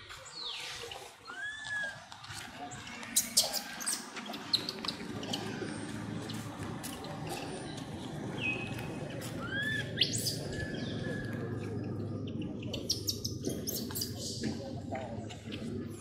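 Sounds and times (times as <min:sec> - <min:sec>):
low background hum: 0:01.2 - 0:16.0.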